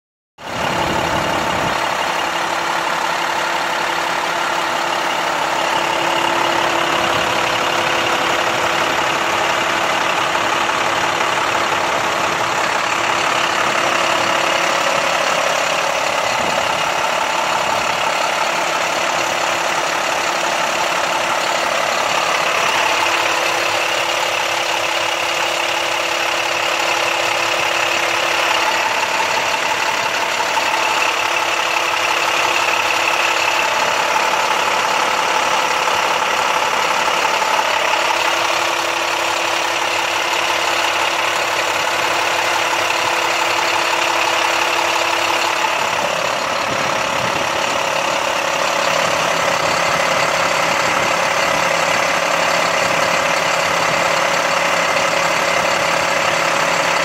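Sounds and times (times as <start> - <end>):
diesel truck engine idling: 0.4 - 57.0.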